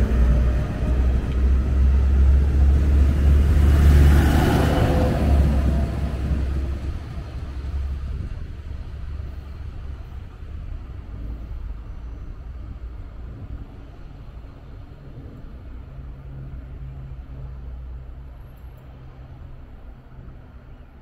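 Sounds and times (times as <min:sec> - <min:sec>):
diesel train engine rumble: 0:00.0 - 0:21.0.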